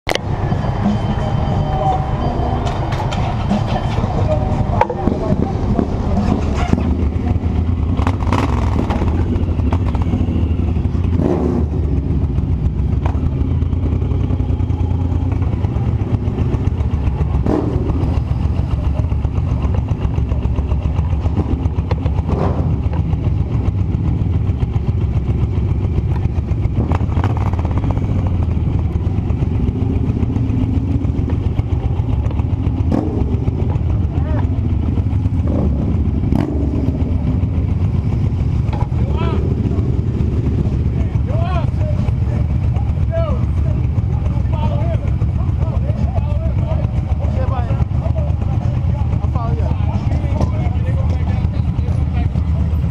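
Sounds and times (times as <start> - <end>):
engine droning: 0.1 - 52.9.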